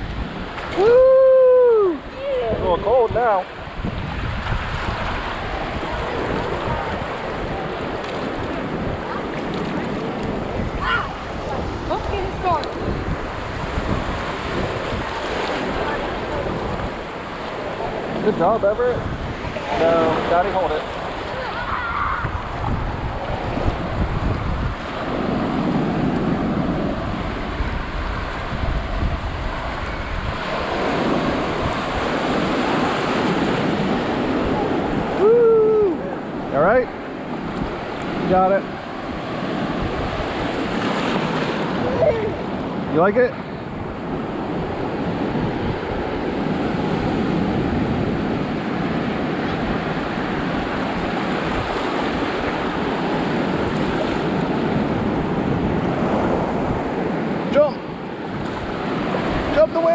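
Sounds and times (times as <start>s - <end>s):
ocean surf breaking: 0.0s - 59.9s
wind rumbling on microphone: 0.0s - 59.9s.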